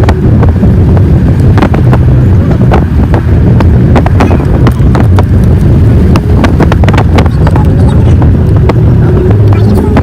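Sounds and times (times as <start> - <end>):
vehicle engine rumbling: 0.0 - 10.0
wind buffeting microphone: 0.0 - 10.0.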